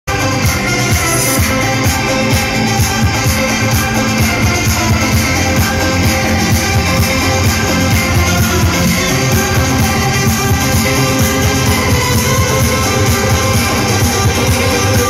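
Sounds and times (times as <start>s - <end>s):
electronic dance music: 0.1s - 15.0s.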